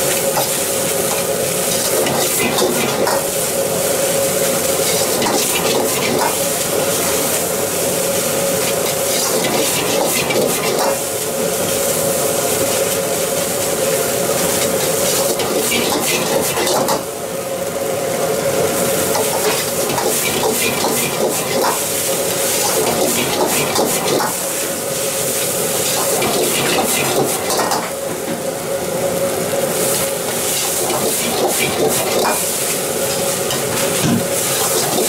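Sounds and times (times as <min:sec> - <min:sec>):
rice sizzling in a wok: 0:00.0 - 0:35.0.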